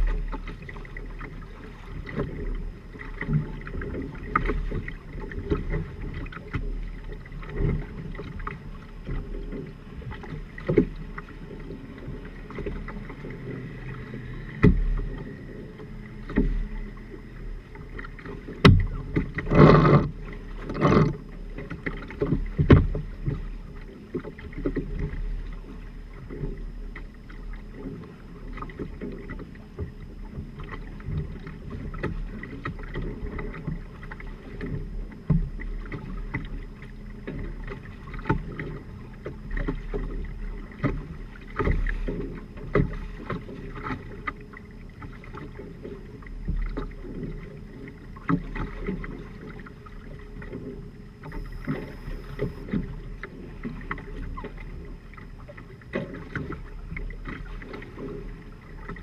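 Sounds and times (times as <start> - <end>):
short water rushes: 0.0 - 59.0
wind: 0.0 - 59.0.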